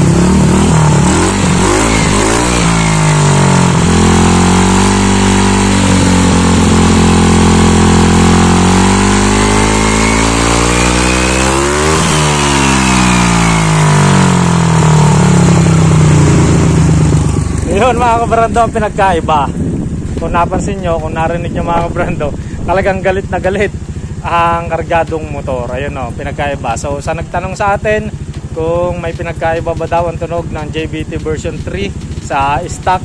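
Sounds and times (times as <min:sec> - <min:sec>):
scooter engine revving: 0:00.0 - 0:33.0.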